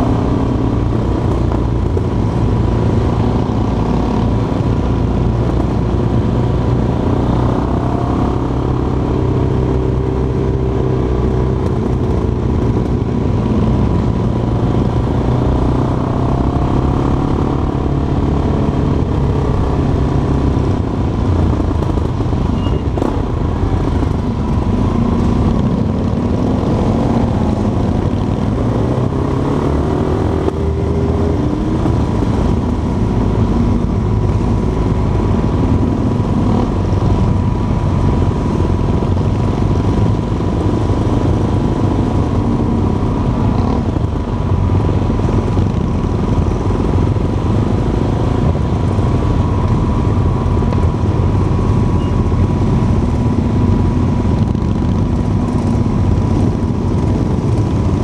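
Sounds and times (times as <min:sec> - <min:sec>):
motorcycle engines running: 0:00.0 - 0:58.0
road and wind noise: 0:00.0 - 0:58.0.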